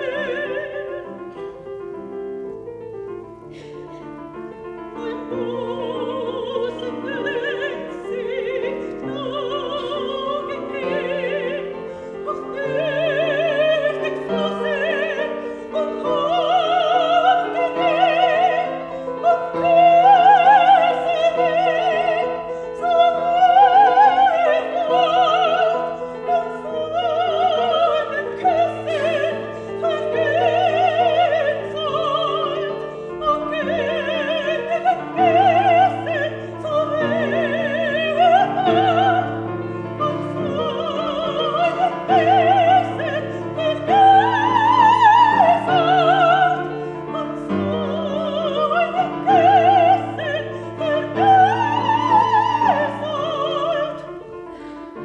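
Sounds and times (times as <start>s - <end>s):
grand piano accompaniment: 0.0s - 55.0s
soprano singing with vibrato: 0.0s - 55.0s.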